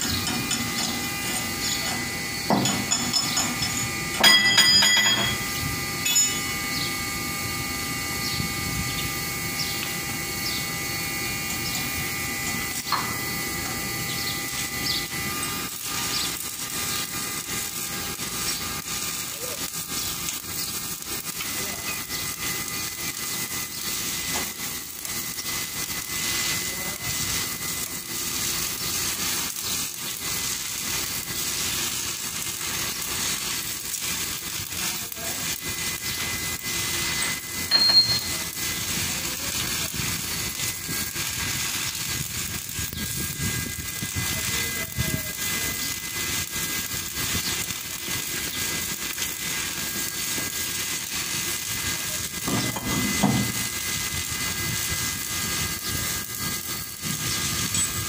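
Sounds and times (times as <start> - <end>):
stick welding crackling hiss: 0.0 - 58.0.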